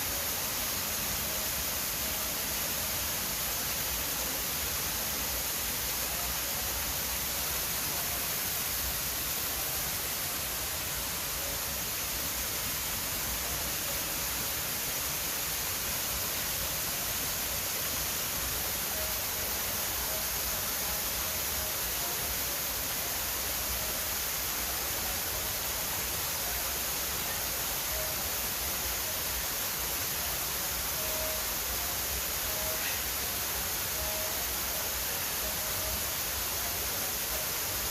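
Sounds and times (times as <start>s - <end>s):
steady hiss: 0.0s - 37.9s.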